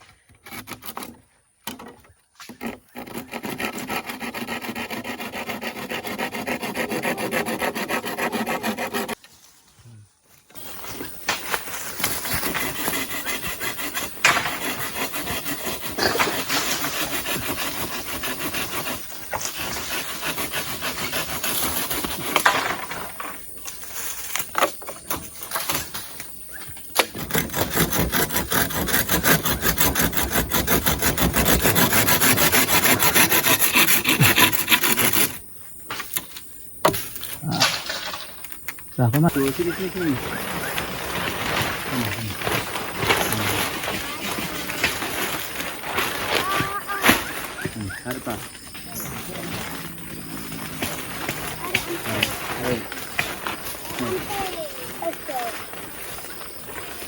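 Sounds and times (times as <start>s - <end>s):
hand saw cutting wood: 0.1s - 9.2s, 10.6s - 56.2s.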